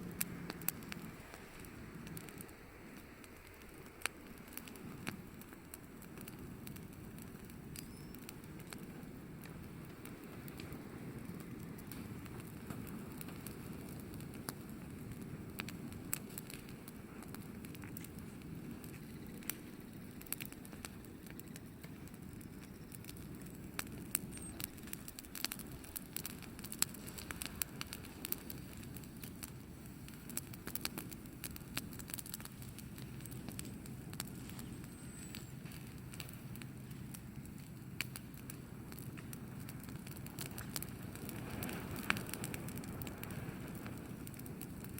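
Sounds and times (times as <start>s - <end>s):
burning wood crackling: 0.0s - 44.9s
low rumble of flames: 0.0s - 44.9s.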